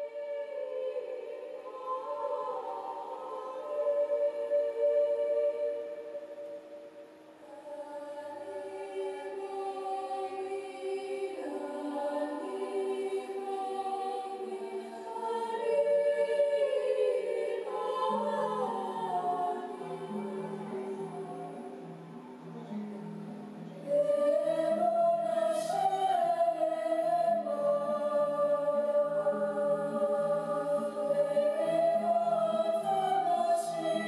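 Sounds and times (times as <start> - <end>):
choir singing long chords: 0.0 - 34.0.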